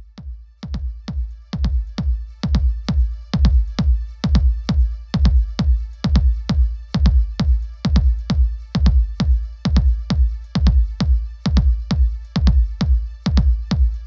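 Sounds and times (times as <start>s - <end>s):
electronic music with drum beat: 0.0s - 14.0s.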